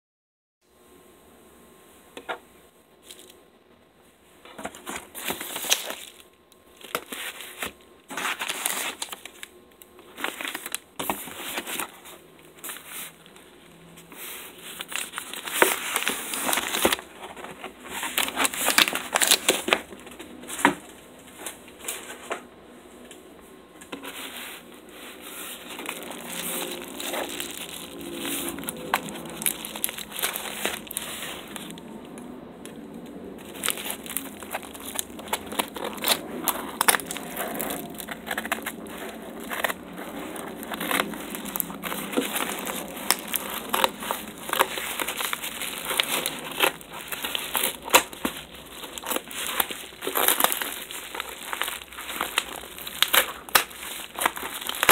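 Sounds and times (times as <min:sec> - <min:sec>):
paper packaging rustling: 0:03.0 - 0:03.4, 0:04.4 - 0:22.5, 0:23.9 - 0:54.9.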